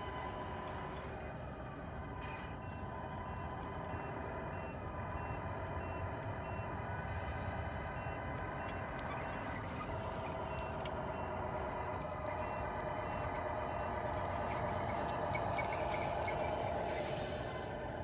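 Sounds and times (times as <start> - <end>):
simulated truck engine running: 0.0 - 18.0
reversing beeper beeping: 2.0 - 17.7.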